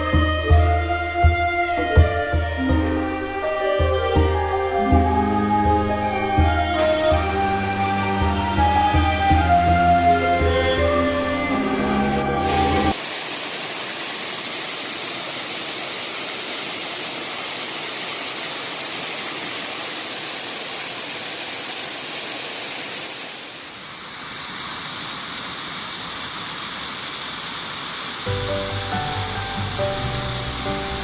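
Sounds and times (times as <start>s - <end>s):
waterfall rushing: 0.8s - 31.0s.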